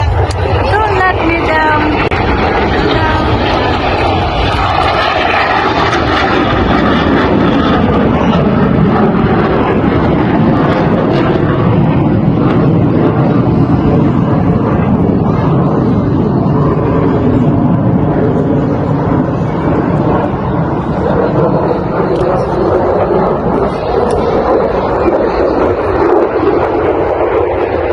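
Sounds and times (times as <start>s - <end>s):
airplane engine flying overhead: 0.0s - 27.9s.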